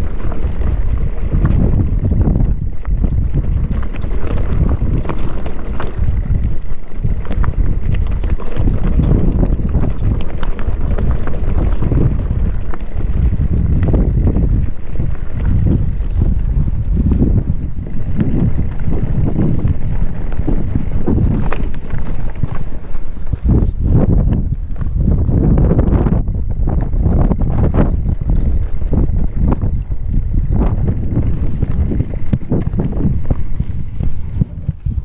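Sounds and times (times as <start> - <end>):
bike rattling and knocking: 0.0 - 35.0
wind buffeting microphone: 0.0 - 35.0.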